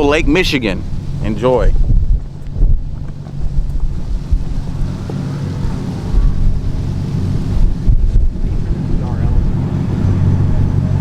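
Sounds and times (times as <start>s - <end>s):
truck engine running: 0.0s - 11.0s
wind on microphone: 0.0s - 11.0s.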